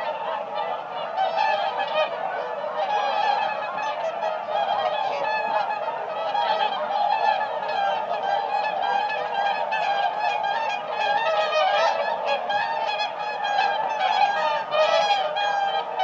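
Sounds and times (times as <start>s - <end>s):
swans calling: 0.0s - 16.0s.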